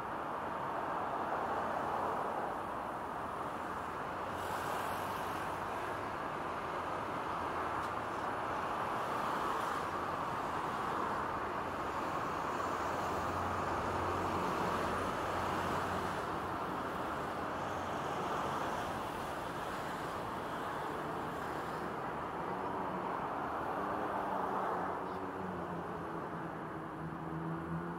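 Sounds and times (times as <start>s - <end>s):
road traffic noise: 0.0s - 27.9s.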